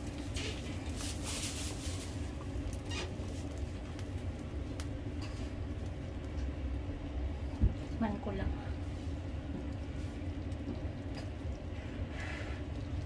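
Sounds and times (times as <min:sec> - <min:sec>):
broth simmering: 0:00.0 - 0:13.0.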